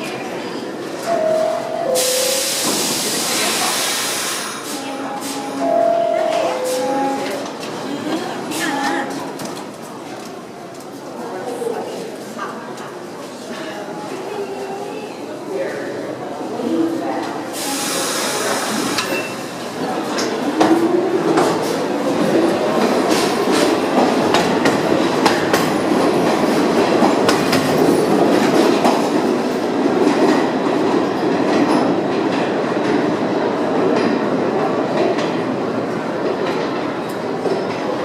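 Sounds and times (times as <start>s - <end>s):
subway train clattering over rail joints: 0.0s - 38.0s.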